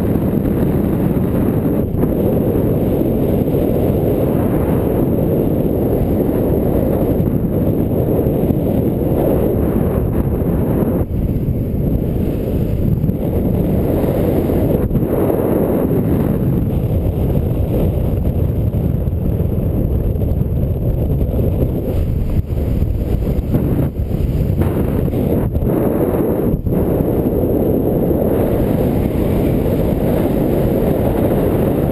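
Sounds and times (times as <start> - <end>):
strong wind on microphone: 0.0 - 31.9.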